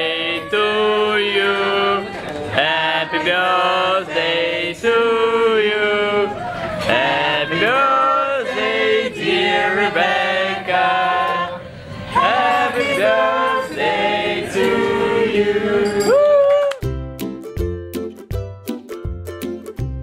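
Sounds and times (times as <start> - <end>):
voices singing without instruments: 0.0 - 16.2.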